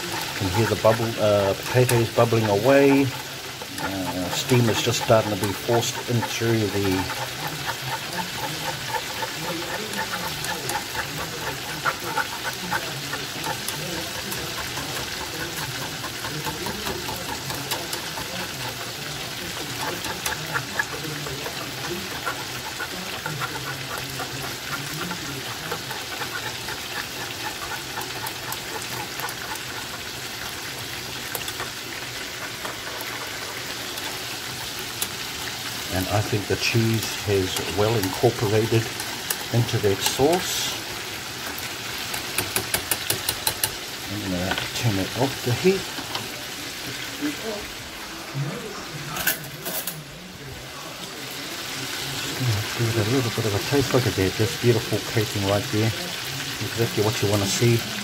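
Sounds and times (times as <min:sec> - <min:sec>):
whisk stirring sauce: 0:00.0 - 0:47.8, 0:51.5 - 0:58.0
deep-frying in oil: 0:00.0 - 0:58.0
water boiling: 0:00.0 - 0:58.0.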